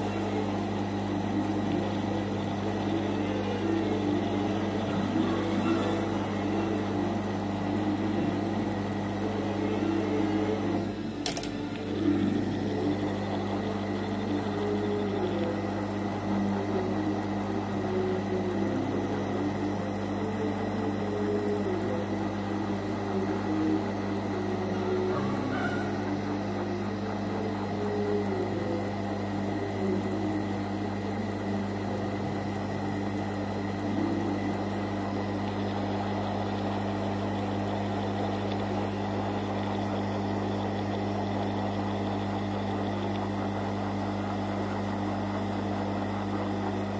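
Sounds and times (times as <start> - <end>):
hot-air blower whirring: 0.0 - 46.9
low electrical hum: 0.0 - 46.9.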